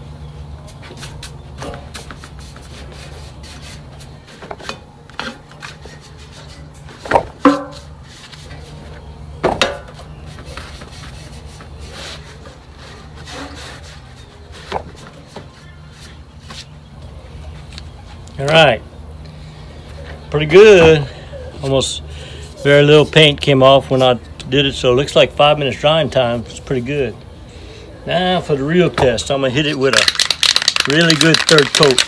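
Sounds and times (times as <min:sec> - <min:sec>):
steady low hum: 0:00.0 - 0:30.8.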